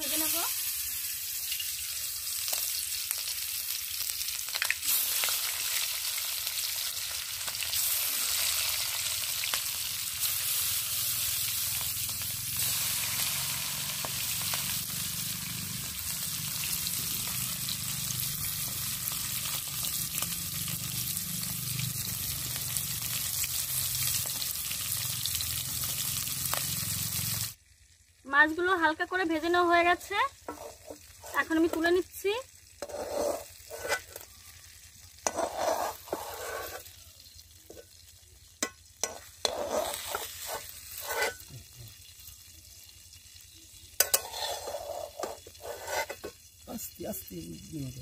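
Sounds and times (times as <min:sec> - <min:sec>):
fish sizzling in hot oil: 0:00.0 - 0:48.0.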